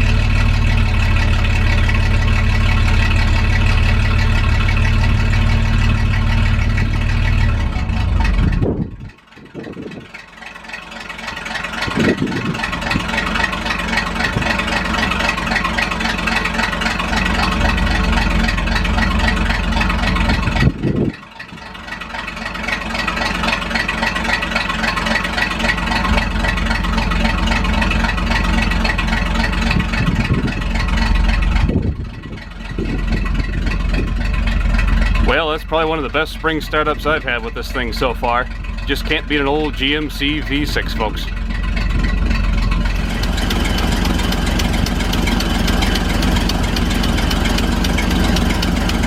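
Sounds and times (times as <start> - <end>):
truck engine running: 0.0 - 49.0.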